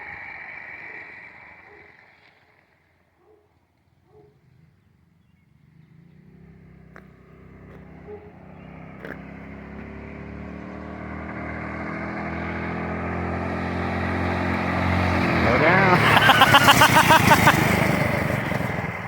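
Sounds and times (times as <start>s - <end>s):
trike engine approaching: 0.0s - 19.0s.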